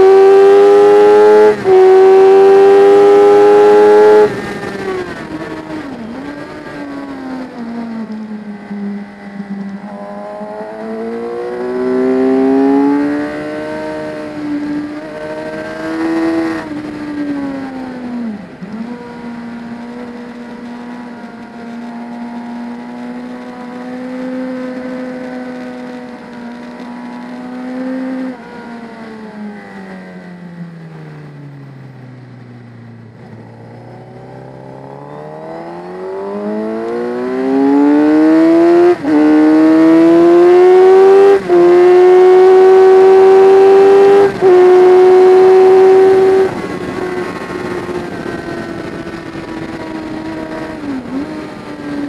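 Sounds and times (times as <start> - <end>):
motorcycle engine: 0.0 - 52.0.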